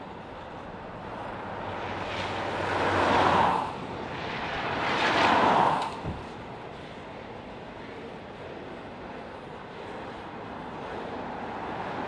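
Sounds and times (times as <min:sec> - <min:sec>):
freight train wheel rumble: 0:00.0 - 0:12.0.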